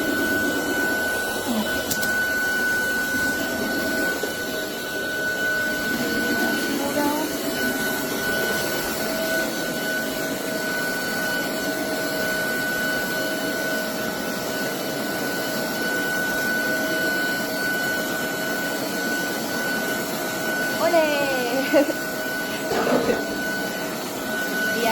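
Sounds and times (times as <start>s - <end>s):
vacuum cleaner whine and rushing: 0.0s - 24.9s.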